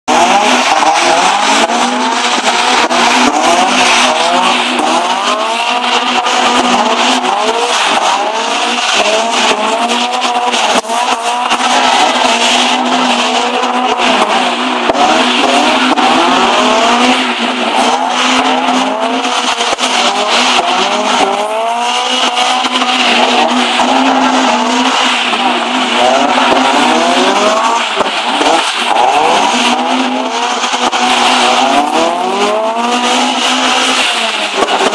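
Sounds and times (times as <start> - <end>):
car engines revving hard: 0.0 - 34.9.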